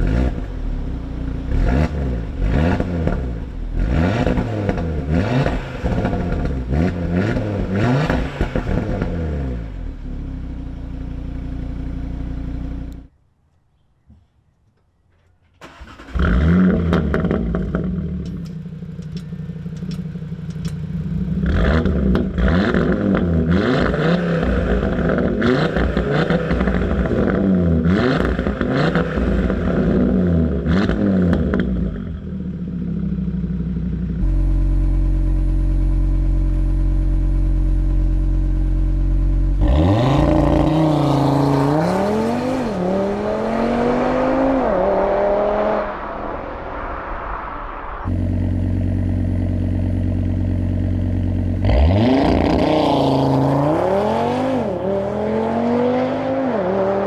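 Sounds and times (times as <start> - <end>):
car engine revving and idling: 0.0 - 13.0, 15.6 - 47.0, 47.9 - 57.0.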